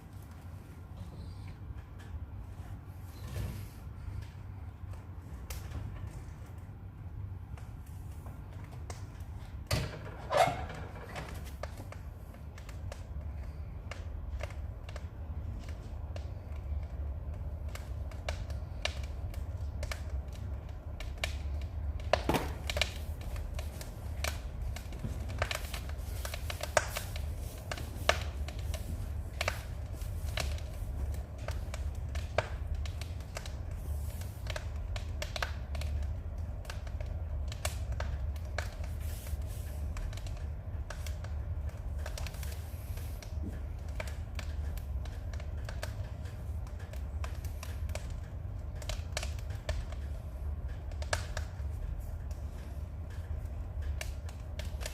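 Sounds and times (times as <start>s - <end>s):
firewood crackling and popping: 0.0s - 54.9s
low fire rumble: 0.0s - 54.9s.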